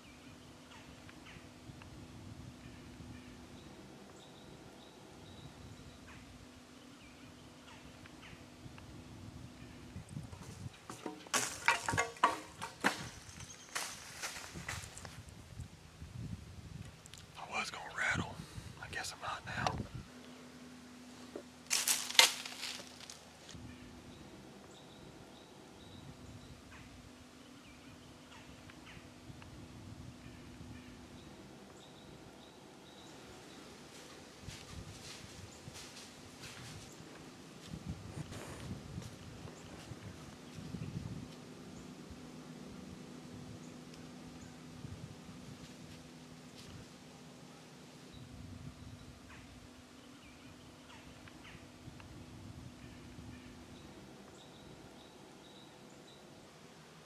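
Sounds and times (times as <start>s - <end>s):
background hiss: 0.0s - 57.0s
faint low hum: 0.0s - 57.0s.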